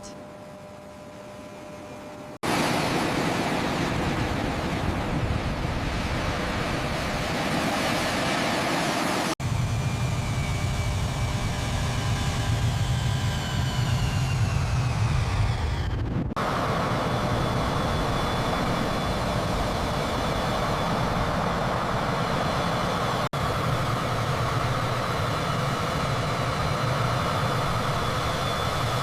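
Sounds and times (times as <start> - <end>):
high engine whine: 0.0 - 29.0
jet engine rush: 2.4 - 29.0.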